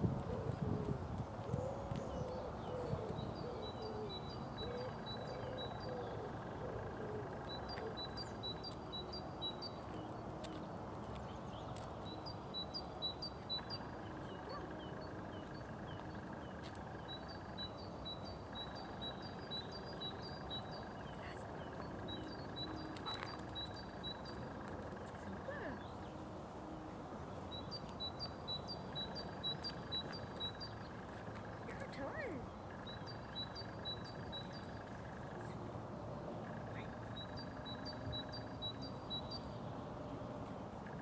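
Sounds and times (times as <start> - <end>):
songbird singing: 0.0 - 41.0.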